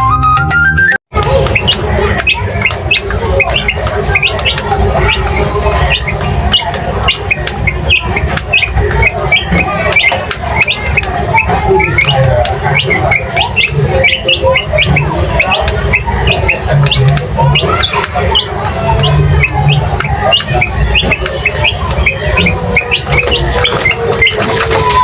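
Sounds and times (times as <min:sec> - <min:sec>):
birds chirping: 0:01.1 - 0:25.0.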